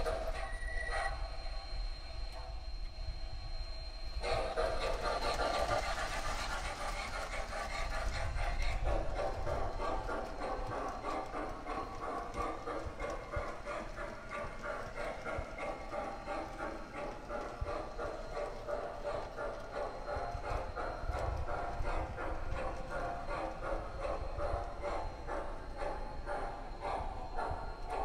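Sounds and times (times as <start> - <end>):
model train wheels clattering: 4.2 - 28.0.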